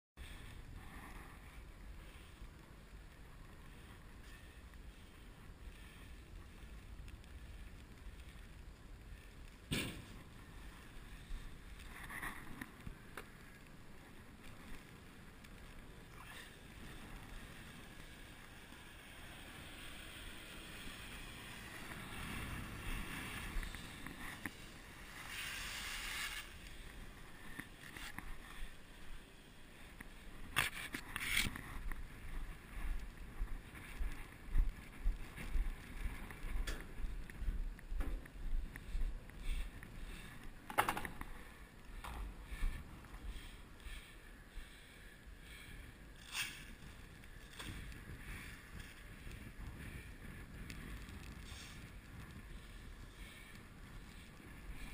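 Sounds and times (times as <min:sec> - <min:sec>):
wind rumbling on microphone: 0:00.2 - 0:54.9.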